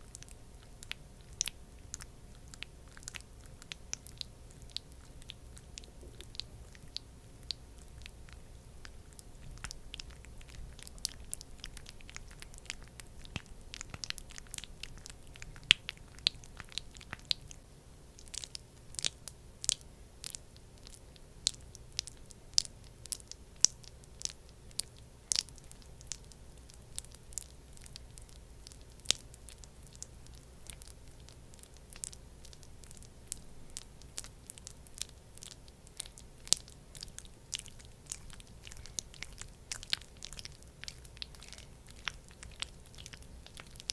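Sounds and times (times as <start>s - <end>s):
sticky cream squishing: 0.0s - 43.9s.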